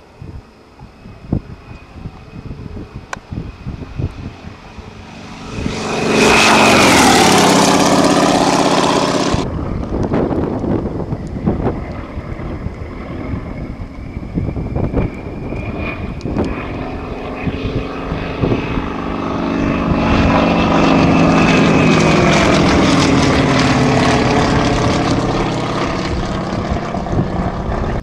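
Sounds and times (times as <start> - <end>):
propeller plane flying past: 0.0 - 28.0.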